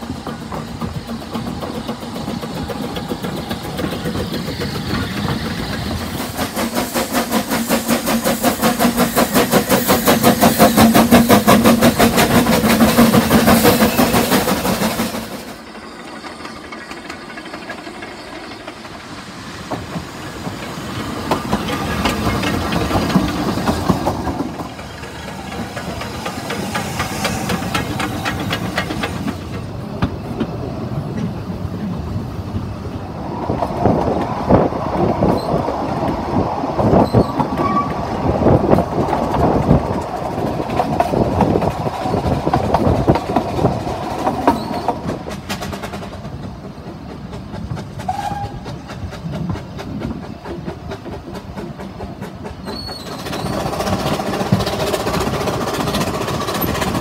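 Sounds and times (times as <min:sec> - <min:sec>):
steady train rumble: 0:00.0 - 0:57.0
train wheels clattering over rails: 0:00.0 - 0:57.0.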